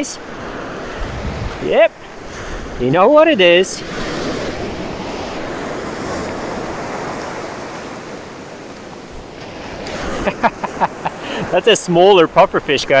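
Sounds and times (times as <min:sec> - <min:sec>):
ocean surf washing onto beach: 0:00.0 - 0:13.0.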